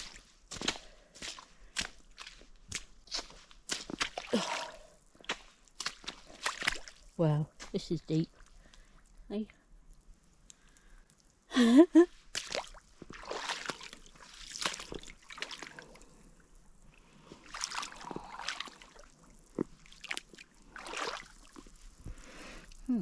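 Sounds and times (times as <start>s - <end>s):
boots wading through water: 0.0s - 9.0s, 12.2s - 22.6s.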